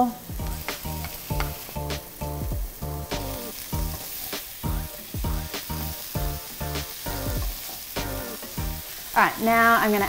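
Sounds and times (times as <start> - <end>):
background music with steady beat: 0.0 - 9.2
food sizzling in oil: 0.0 - 10.0.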